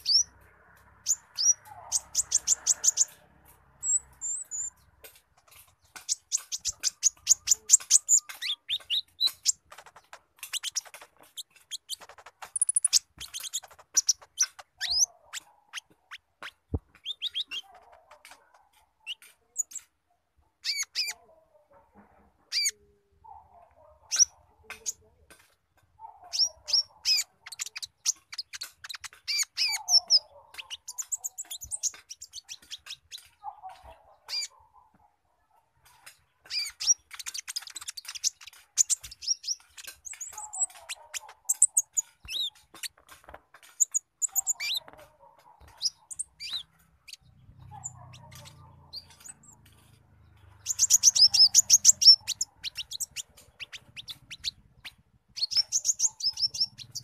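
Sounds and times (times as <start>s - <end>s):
bird chattering song: 0.0s - 20.0s, 20.6s - 21.3s, 22.4s - 35.0s, 35.8s - 57.0s.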